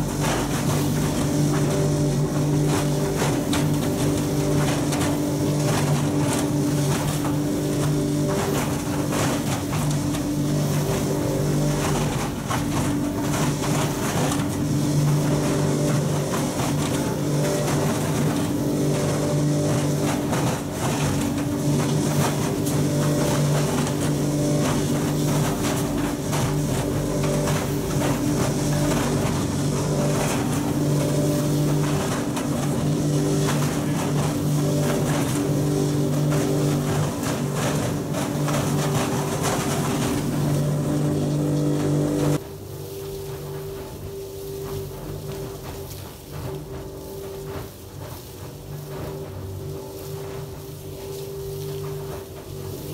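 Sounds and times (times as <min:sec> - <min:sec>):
blower machine humming: 0:00.0 - 0:52.9
insulation rattling through hose: 0:00.0 - 0:52.9.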